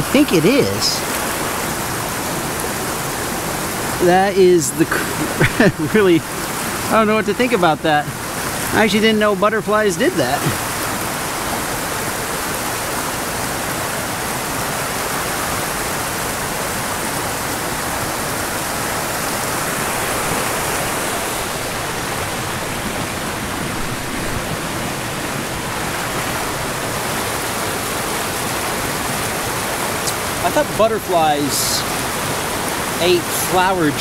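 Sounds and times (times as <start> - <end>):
fast-flowing stream water: 0.0 - 34.0.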